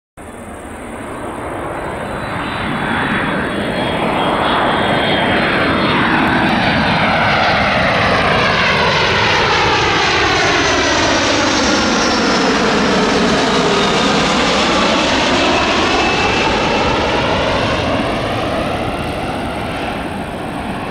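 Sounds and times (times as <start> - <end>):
jet aircraft engines roaring: 0.2 - 20.9
thin high engine whine: 0.2 - 20.9.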